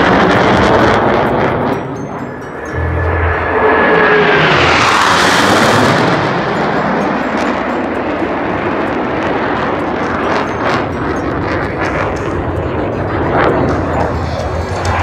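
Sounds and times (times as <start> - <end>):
jet passing low: 0.0 - 15.0.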